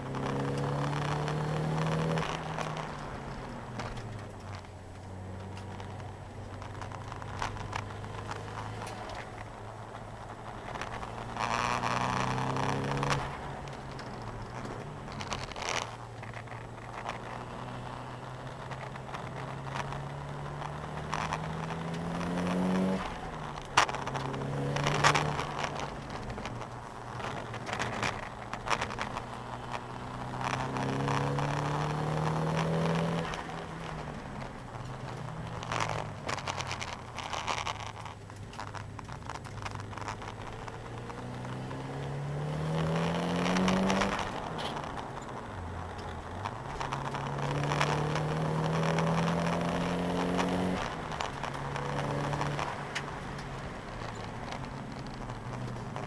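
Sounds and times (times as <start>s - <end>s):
car engine accelerating: 0.0s - 56.0s
sharp clacks: 0.0s - 56.0s.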